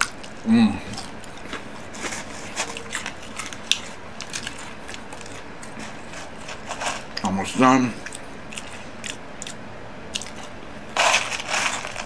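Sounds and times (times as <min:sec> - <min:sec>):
chewing crunchy fried batter: 0:00.0 - 0:07.3, 0:08.0 - 0:12.0.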